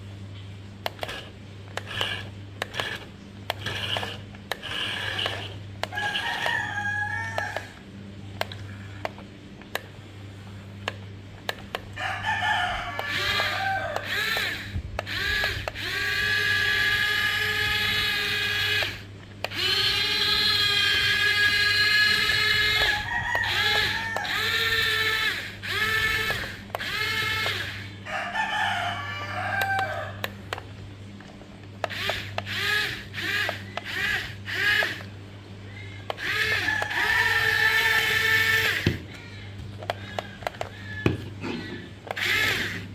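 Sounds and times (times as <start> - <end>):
steady low hum: 0.0 - 42.9
roosters crowing: 3.6 - 9.1, 11.5 - 31.2, 31.9 - 42.9.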